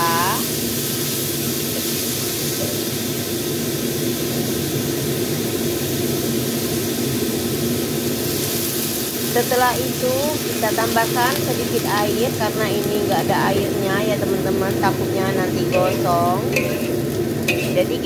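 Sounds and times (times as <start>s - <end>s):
water poured into hot wok: 0.0s - 13.3s, 15.6s - 18.0s
vegetables stir-frying in wok: 0.0s - 18.0s.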